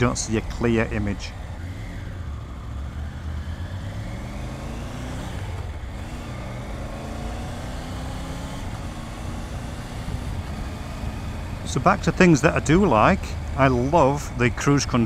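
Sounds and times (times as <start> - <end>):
motorcycle engine accelerating: 0.0 - 15.0
wind and road rush: 0.0 - 15.0.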